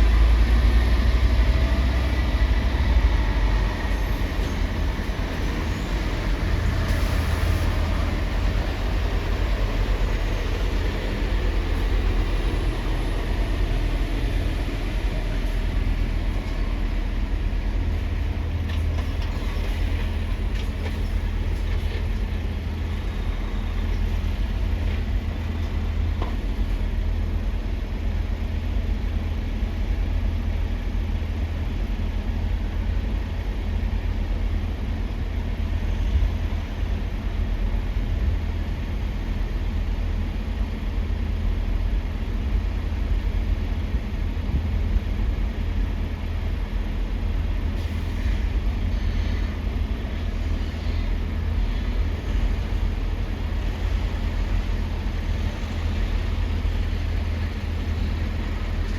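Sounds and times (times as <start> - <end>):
traffic rumble: 0.0 - 58.9.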